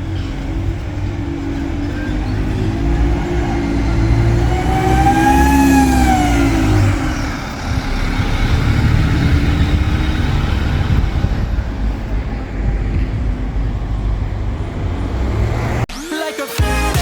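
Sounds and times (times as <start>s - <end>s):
bus diesel engine rumble: 0.0s - 15.9s
road noise: 0.0s - 15.9s.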